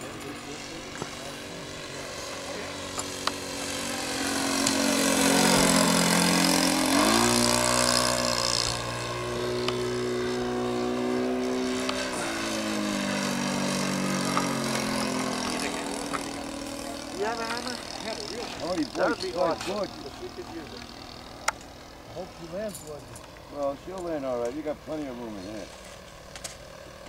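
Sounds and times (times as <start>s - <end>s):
model aeroplane engine: 0.0s - 27.0s.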